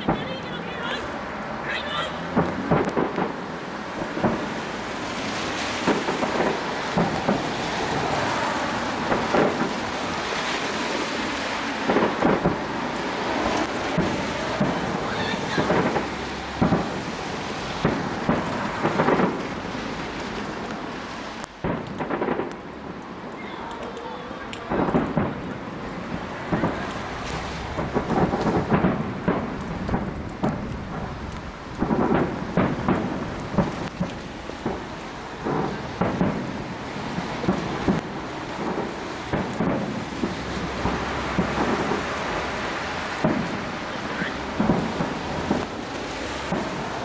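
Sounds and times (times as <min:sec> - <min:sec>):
continuous hiss: 0:00.0 - 0:47.0
distant firework bangs: 0:00.0 - 0:47.0.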